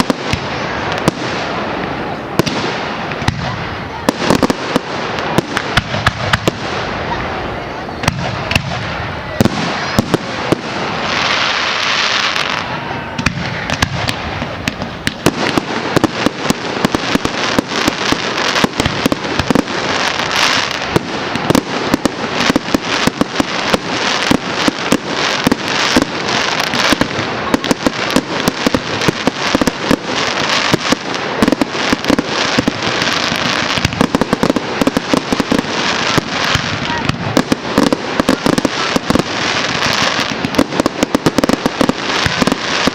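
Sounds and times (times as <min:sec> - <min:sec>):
fireworks bangs and crackling: 0:00.0 - 0:42.9
fireworks hissing: 0:00.0 - 0:42.9.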